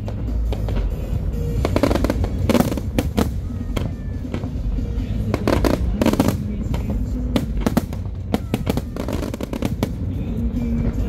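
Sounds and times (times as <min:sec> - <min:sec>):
firework bangs and cracks: 0:00.0 - 0:11.0
low rumble of explosions: 0:00.0 - 0:11.0.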